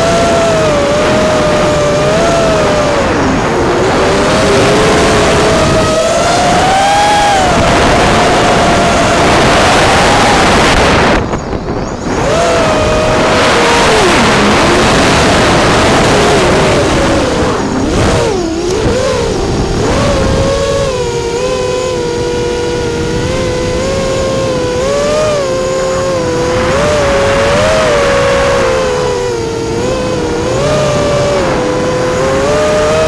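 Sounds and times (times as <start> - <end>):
quadcopter motors whining: 0.0 - 33.0
wind rushing: 0.4 - 33.0.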